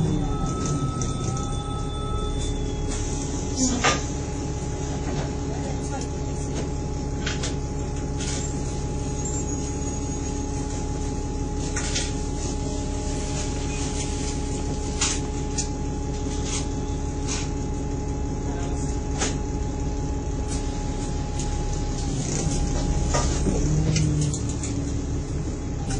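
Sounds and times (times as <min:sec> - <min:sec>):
bus engine drone with whine: 0:00.0 - 0:25.9.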